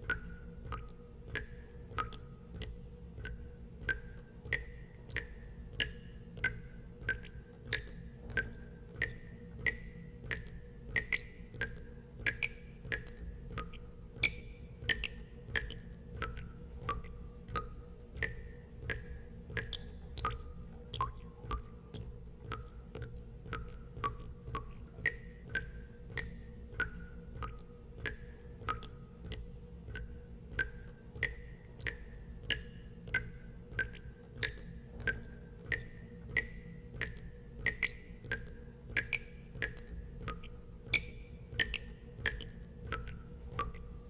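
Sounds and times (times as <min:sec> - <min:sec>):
steady low hum: 0:00.0 - 0:44.0
water drops plinking into water: 0:00.0 - 0:44.0.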